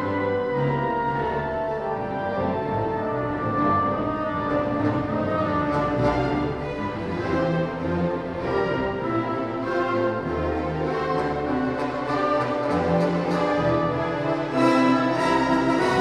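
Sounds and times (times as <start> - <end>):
orchestral music: 0.0 - 16.0.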